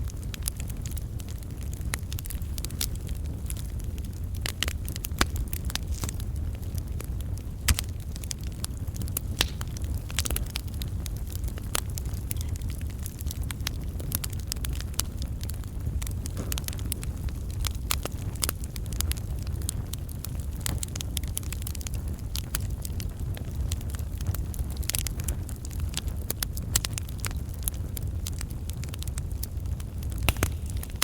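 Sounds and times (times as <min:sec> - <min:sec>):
fire rumbling: 0:00.0 - 0:31.0
wood crackling and popping: 0:00.0 - 0:31.0.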